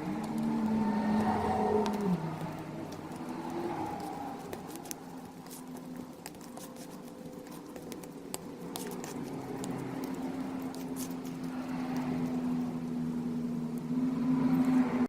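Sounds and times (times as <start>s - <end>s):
slime squishing with sticky pops: 0.0s - 13.0s
steady low hum: 0.0s - 15.0s.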